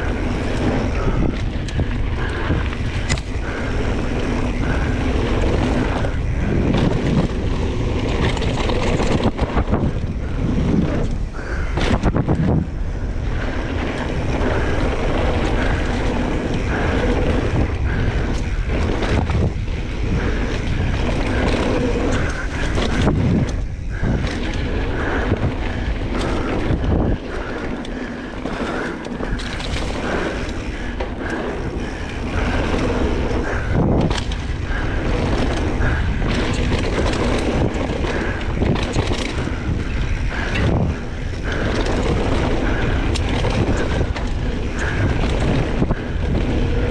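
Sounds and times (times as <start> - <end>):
bike knocks and rattles: 0.0 - 46.9
mountain bike tyre and frame noise: 0.0 - 46.9
wind on microphone: 0.0 - 46.9.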